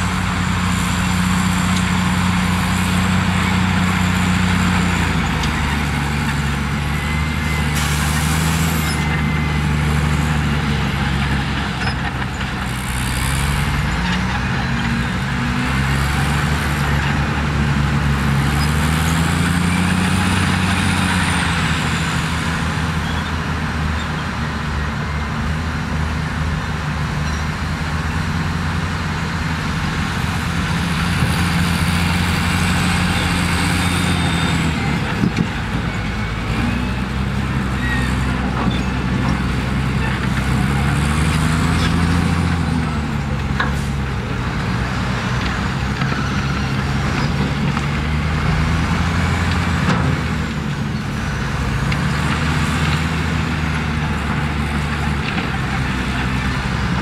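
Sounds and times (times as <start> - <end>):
heavy diesel engines revving: 0.0 - 57.0.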